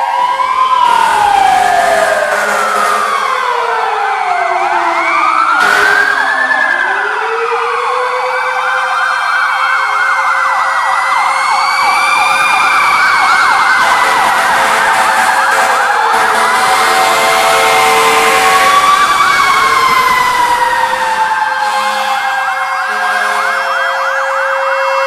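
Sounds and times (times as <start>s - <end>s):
fire sirens wailing: 0.0s - 25.0s.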